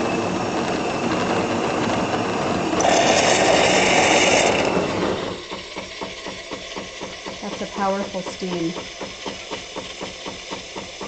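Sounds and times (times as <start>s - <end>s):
espresso machine pump running: 0.0s - 11.0s
steam hissing: 0.0s - 11.0s.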